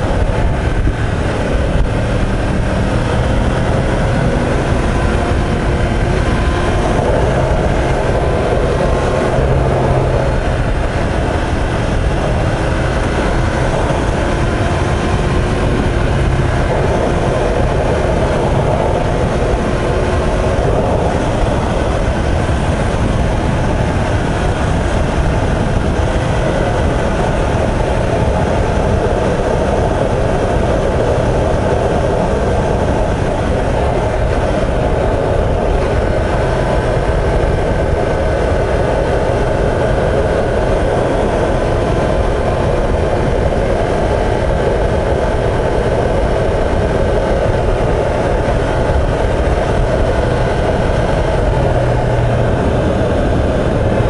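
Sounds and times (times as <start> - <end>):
motorcycle ride noise rush: 0.0 - 54.0.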